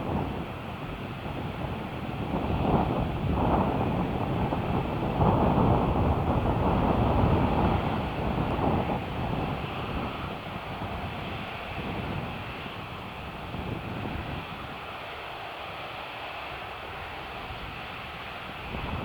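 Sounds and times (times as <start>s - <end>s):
jet airliner engines rumbling: 0.0s - 19.0s.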